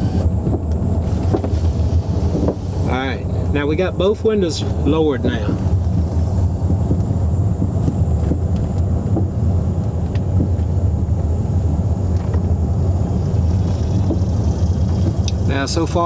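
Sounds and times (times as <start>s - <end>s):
car road and wind rumble: 0.0s - 16.0s.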